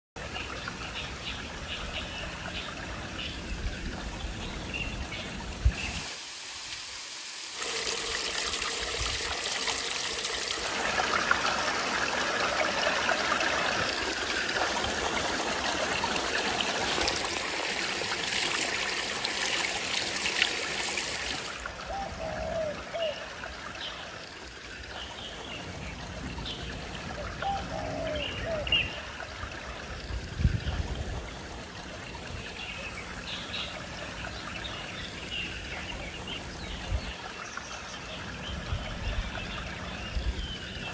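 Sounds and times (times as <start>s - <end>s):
stream water running: 0.2s - 40.9s.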